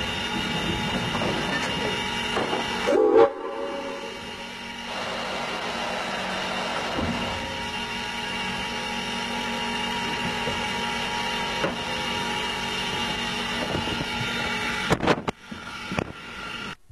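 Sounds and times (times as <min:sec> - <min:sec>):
locomotive cab running noise: 0:00.0 - 0:16.9.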